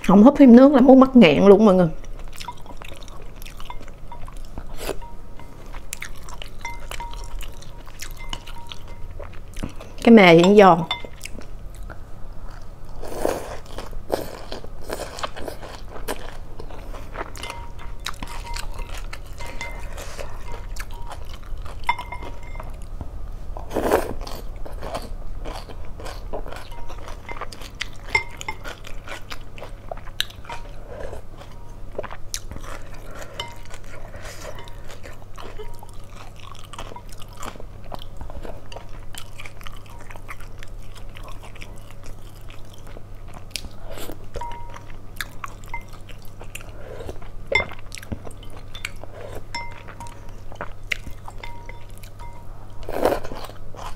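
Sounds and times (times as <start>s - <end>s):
chewing and crunching: 2.0s - 23.0s, 23.6s - 53.9s.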